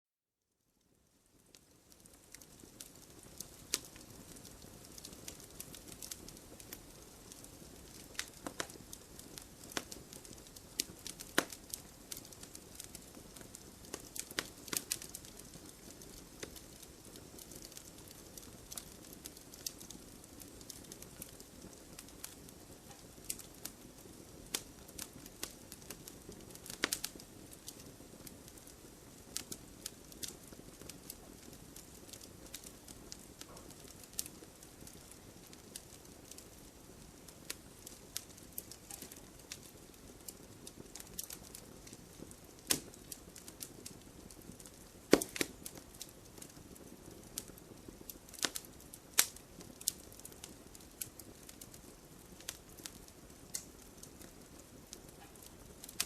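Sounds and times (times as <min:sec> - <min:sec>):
firewood crackles and pops: 0:00.8 - 0:56.0
fire hissing: 0:01.6 - 0:56.0.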